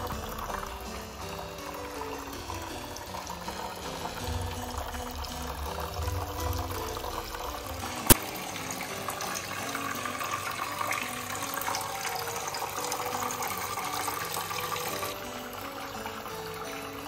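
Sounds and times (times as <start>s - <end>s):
background music: 0.0s - 17.0s
fountain water trickling: 0.0s - 17.0s.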